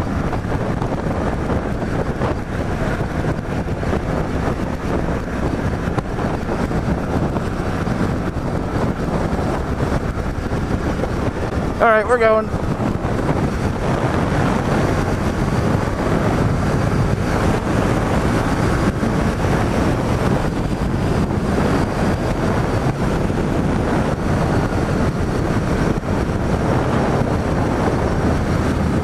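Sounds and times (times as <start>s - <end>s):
motorcycle engine drone: 0.0s - 29.0s
wind rushing over microphone: 0.0s - 29.0s.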